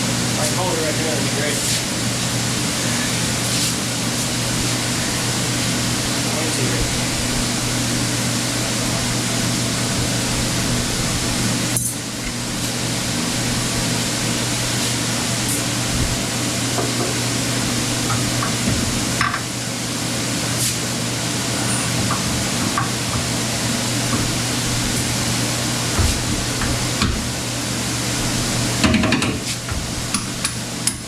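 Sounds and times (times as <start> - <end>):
blower fan running: 0.0 - 31.0.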